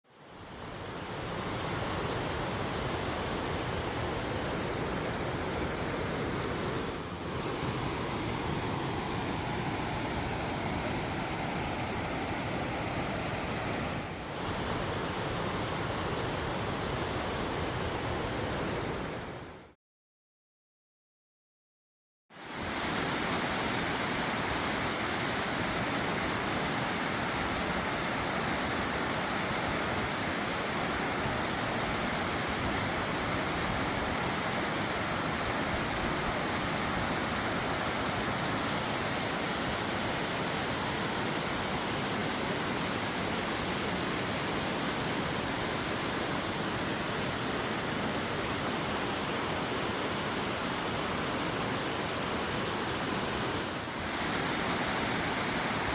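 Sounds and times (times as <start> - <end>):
rushing water: 0.1 - 19.8, 22.3 - 55.9.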